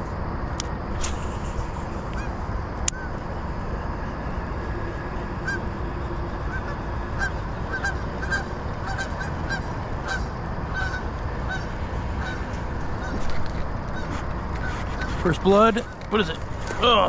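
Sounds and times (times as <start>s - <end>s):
low background rumble: 0.0s - 17.0s
geese honking: 1.6s - 17.0s.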